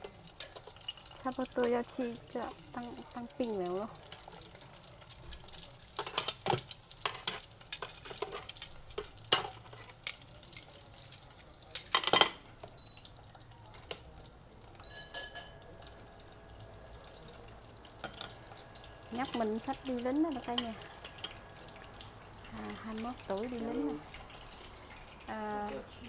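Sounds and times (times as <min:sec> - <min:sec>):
utensils clinking against pots: 0:00.0 - 0:12.7, 0:13.7 - 0:14.1, 0:14.8 - 0:24.7
low frying hiss: 0:00.0 - 0:26.0.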